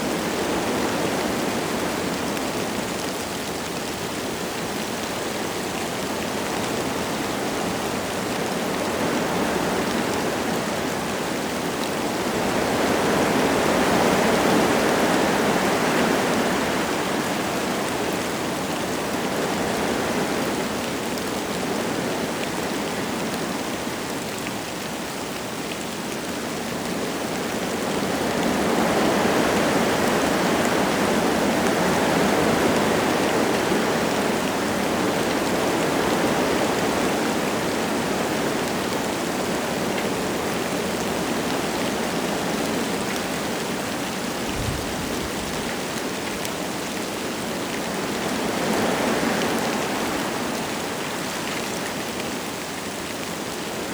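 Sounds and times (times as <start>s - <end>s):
light rain falling: 0.0s - 53.9s
wind rushing through trees: 0.0s - 53.9s.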